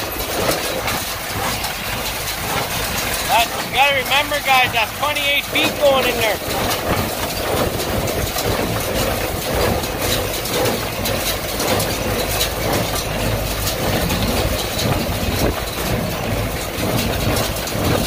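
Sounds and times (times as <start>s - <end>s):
tractor engine rumbling: 0.0s - 18.0s.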